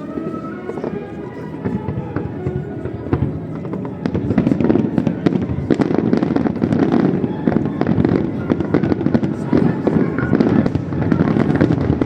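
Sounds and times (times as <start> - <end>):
fireworks bangs and bursts: 0.0 - 12.0.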